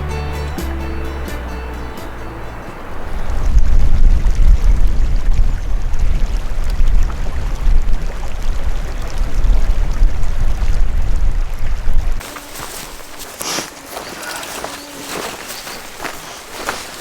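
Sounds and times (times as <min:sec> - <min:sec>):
wind buffeting microphone: 0:02.6 - 0:17.0.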